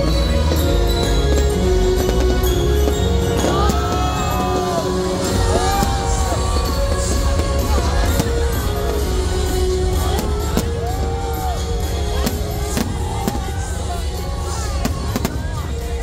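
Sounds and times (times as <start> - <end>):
music with singing voice: 0.0 - 16.0
fireworks bangs: 1.4 - 16.0.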